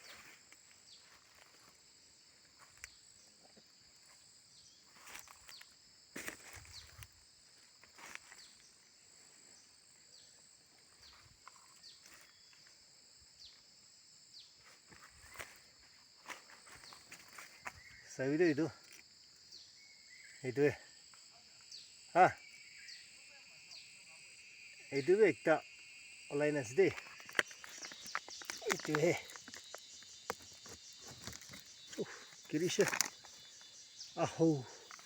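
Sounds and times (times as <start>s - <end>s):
cicada chorus drone: 0.0s - 35.0s.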